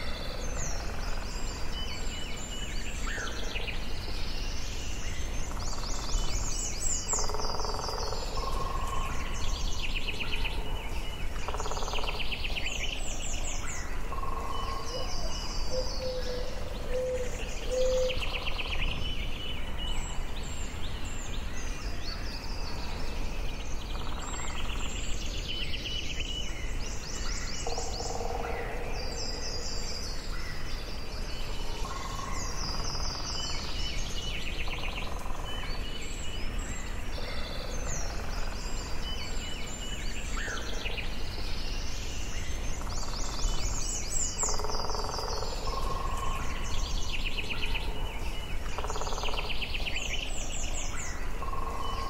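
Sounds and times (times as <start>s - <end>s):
birds singing and calling: 0.0s - 52.0s.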